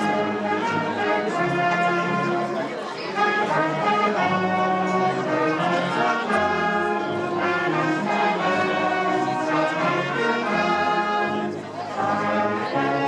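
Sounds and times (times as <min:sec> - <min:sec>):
brass band playing held chords: 0:00.0 - 0:13.0.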